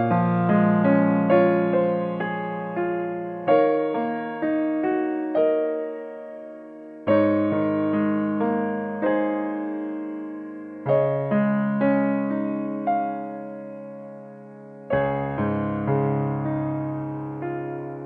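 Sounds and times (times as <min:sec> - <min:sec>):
soft piano piece: 0:00.0 - 0:18.0.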